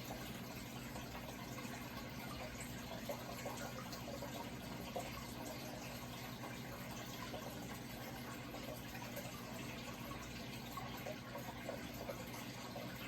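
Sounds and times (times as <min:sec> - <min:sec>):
faint steady hum: 0:00.0 - 0:13.0
water pouring and splashing: 0:00.0 - 0:13.0.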